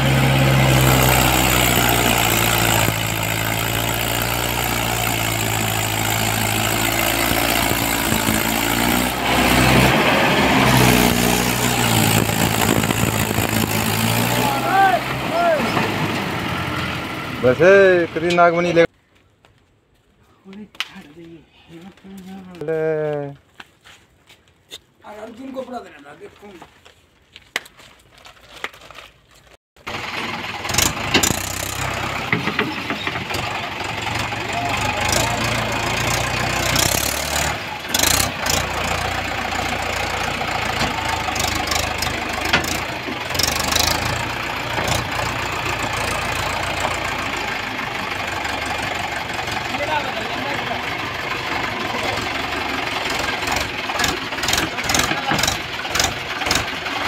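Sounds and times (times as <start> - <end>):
tractor diesel engine under load: 0.0 - 18.9, 29.8 - 57.0.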